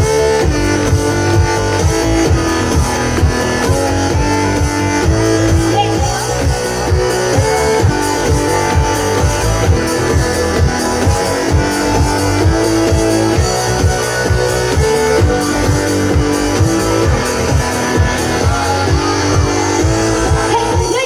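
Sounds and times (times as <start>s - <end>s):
drum beat: 0.0s - 21.0s
guitar: 0.0s - 21.0s.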